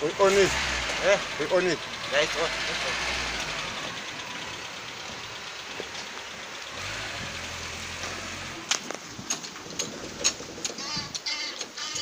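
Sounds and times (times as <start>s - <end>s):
truck engine idling: 0.0s - 11.8s.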